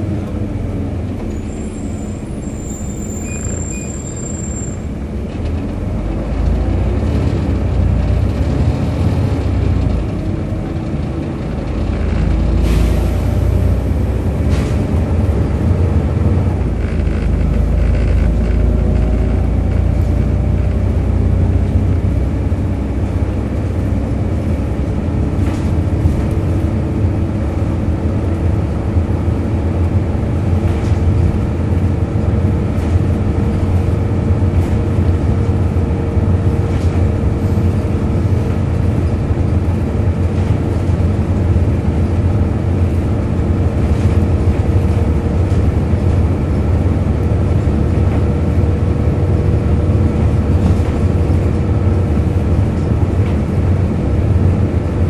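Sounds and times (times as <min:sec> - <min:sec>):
bus diesel engine rumbling: 0:00.0 - 0:55.0.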